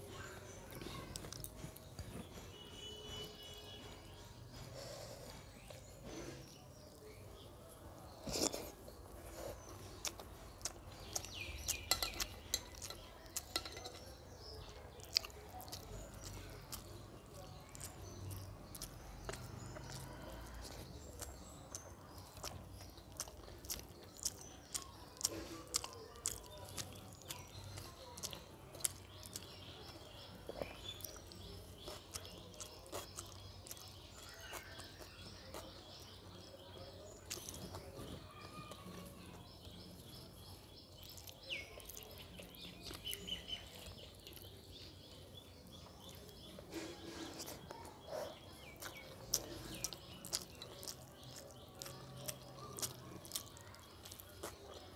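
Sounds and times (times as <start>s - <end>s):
person chewing and lip smacking: 0.0s - 7.2s, 8.2s - 54.9s
fingers squelching rice: 8.2s - 54.9s.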